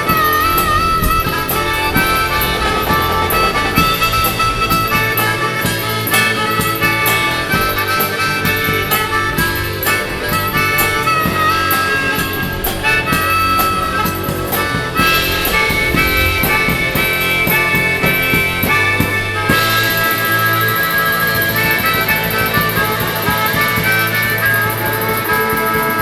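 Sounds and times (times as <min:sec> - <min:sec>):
bass: 0:00.0 - 0:26.0
drums: 0:00.0 - 0:26.0
lead line of bending notes: 0:00.0 - 0:26.0
live band playing: 0:00.0 - 0:26.0.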